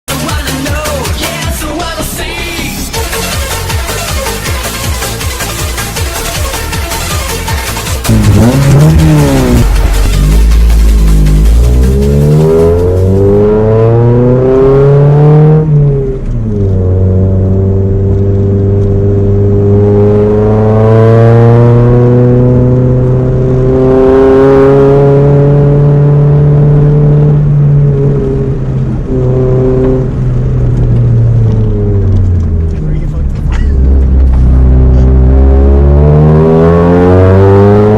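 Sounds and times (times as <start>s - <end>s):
car engine accelerating: 2.3s - 37.9s.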